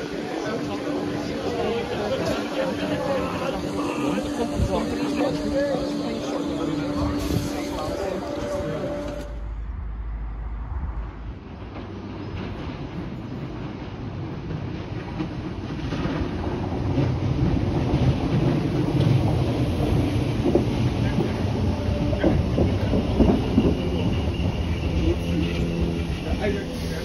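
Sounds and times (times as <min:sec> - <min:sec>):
electric train passing: 0:00.0 - 0:27.0.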